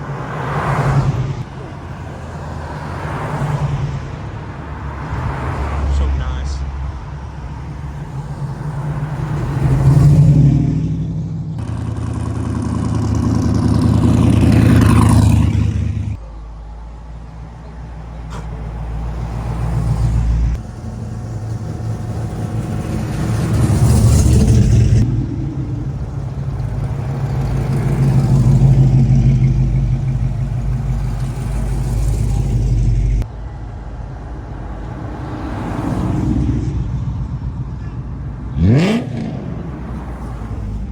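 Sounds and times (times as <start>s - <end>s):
car engines driving past: 0.0s - 40.9s.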